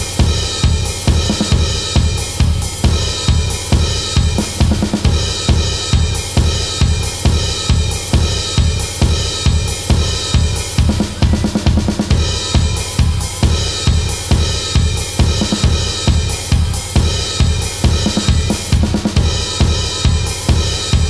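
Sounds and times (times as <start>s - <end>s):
ringing cymbals: 0.0s - 21.0s.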